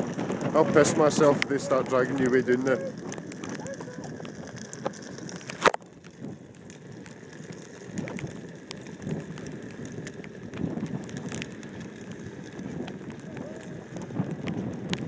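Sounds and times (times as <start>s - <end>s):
rain hissing on a wet path: 0.0s - 15.0s.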